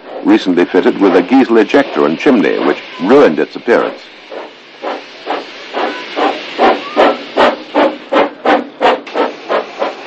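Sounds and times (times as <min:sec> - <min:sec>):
steam locomotive chuffing: 0:00.0 - 0:10.0.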